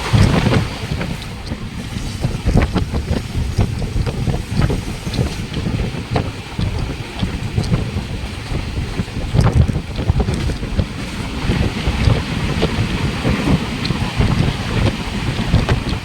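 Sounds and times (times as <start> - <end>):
moving train rumble: 0.0 - 16.0
wind buffeting microphone: 0.0 - 16.0.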